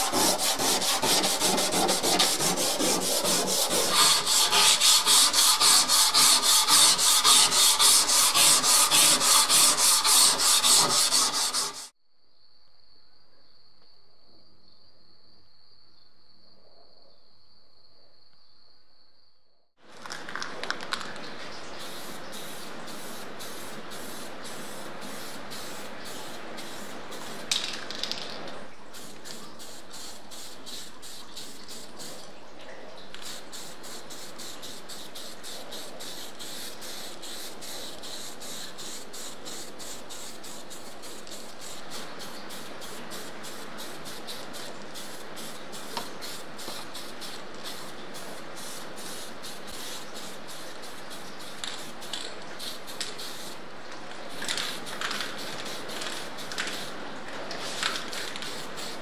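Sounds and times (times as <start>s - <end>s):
spray-paint can hissing: 0.0s - 12.0s, 21.8s - 32.3s, 33.1s - 53.6s, 54.2s - 59.0s.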